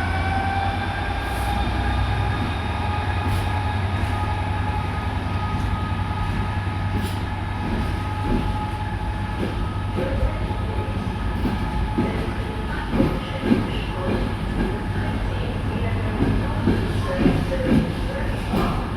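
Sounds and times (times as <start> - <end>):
train running with low hum: 0.0 - 18.9.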